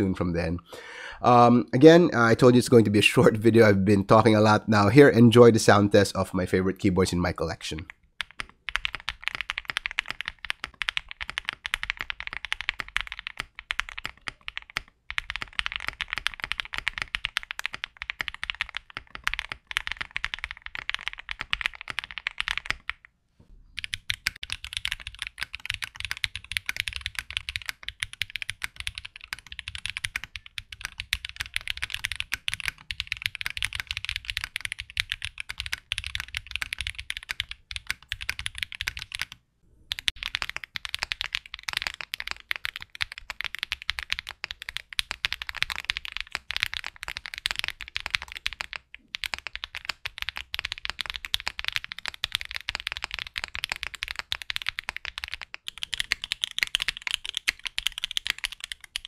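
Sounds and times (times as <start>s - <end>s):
mechanical keyboard typing: 7.8s - 23.1s, 23.8s - 59.0s.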